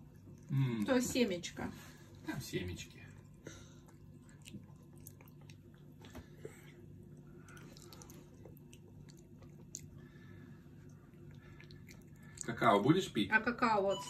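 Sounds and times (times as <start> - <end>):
child chewing pastry: 0.0 - 12.9
low steady hum: 0.0 - 14.0.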